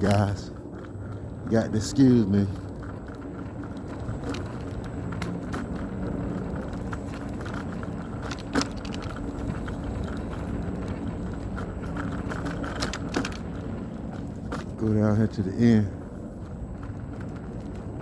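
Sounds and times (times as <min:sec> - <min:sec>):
wheels rolling over rough concrete: 0:00.0 - 0:18.0.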